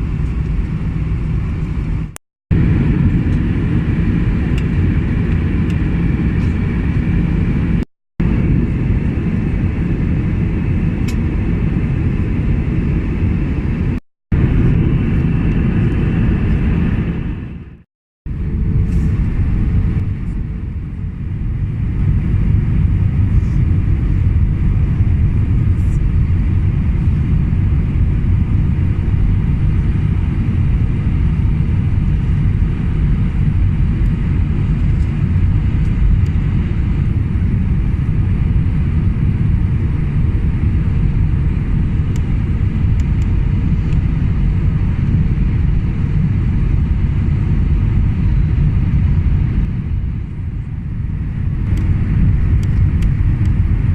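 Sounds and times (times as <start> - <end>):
aircraft cabin low rumble: 0.0 - 53.9.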